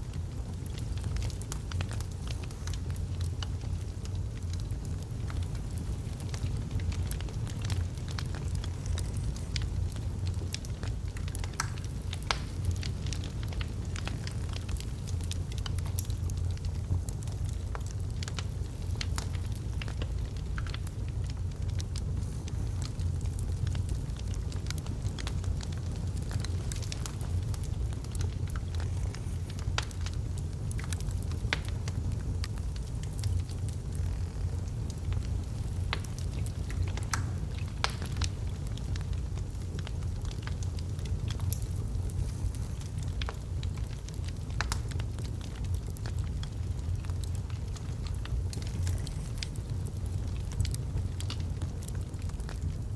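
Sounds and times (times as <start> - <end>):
logs crackling and popping: 0.0 - 52.9
low rumble of fire: 0.0 - 52.9.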